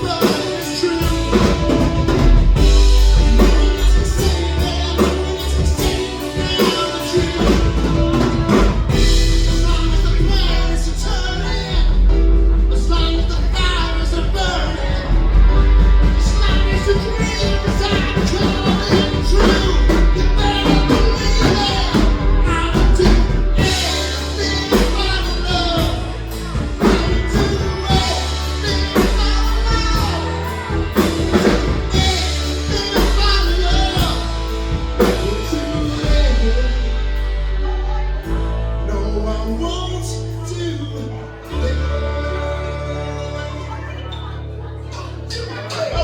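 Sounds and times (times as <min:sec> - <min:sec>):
live rock band playing: 0:00.0 - 0:46.0
person singing: 0:00.0 - 0:46.0.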